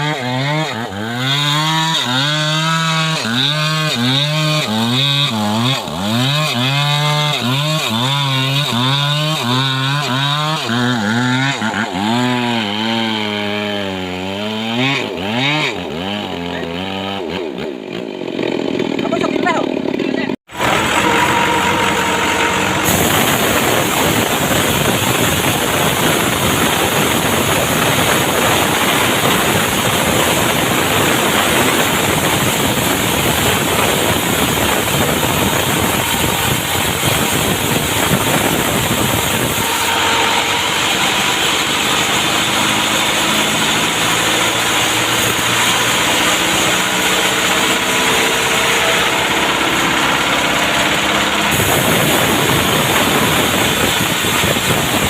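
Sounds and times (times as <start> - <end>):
chainsaw engine running: 0.0 - 55.0.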